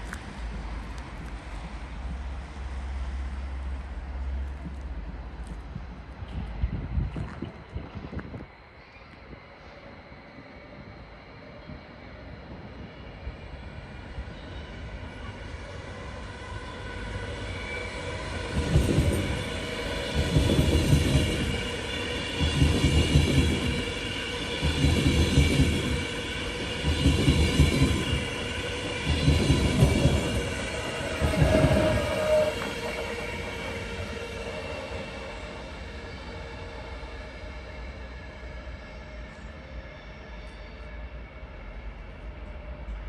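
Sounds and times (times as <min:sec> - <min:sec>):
train passing: 0:00.0 - 0:43.0.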